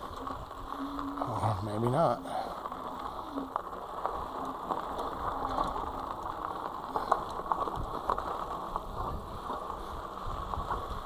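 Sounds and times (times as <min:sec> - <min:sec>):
bike chain and frame rattling: 0:00.0 - 0:11.0
tyre noise on dirt trail: 0:00.0 - 0:11.0.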